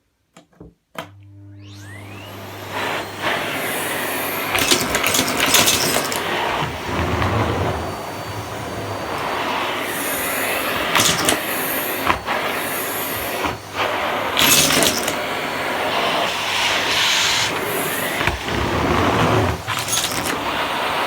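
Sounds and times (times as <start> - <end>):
vacuum cleaner running: 1.0 - 21.0.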